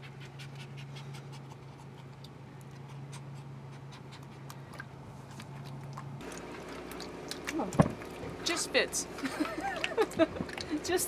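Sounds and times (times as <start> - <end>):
puppy lapping water: 0.0 - 11.0
steady low hum: 0.0 - 11.0.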